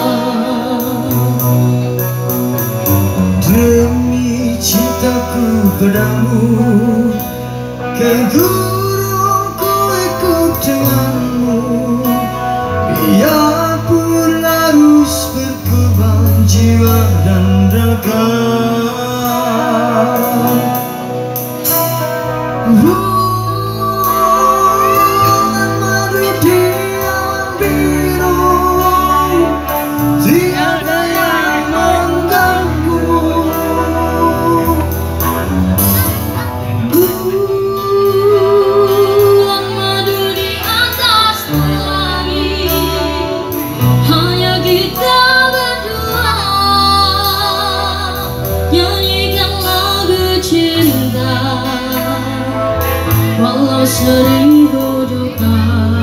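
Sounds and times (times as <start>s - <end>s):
woman singing: 0.0s - 2.8s, 3.4s - 21.4s, 22.5s - 56.0s
live band playing pop ballad: 0.0s - 56.0s.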